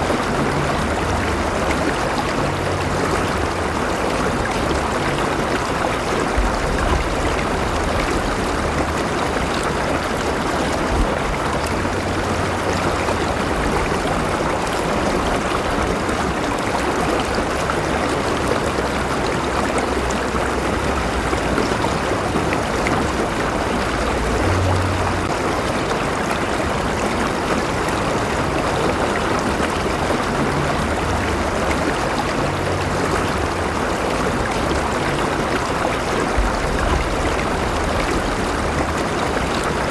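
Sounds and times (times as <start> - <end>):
low water rumble: 0.0 - 39.9
river water rushing over stones: 0.0 - 39.9
water trickling: 0.0 - 39.9.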